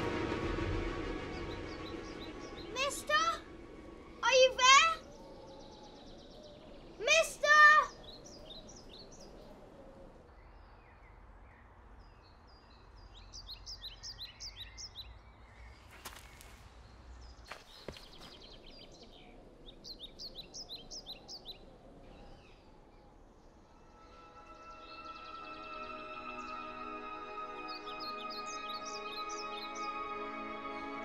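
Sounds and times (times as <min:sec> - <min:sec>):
faint outdoor ambience: 0:00.0 - 0:31.0
songbird chirping: 0:00.0 - 0:31.0.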